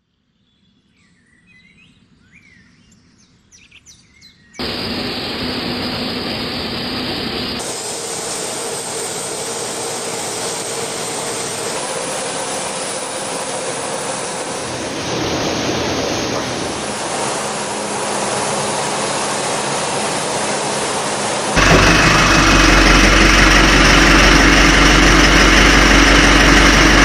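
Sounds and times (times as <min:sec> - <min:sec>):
machinery running: 0:04.6 - 0:27.0.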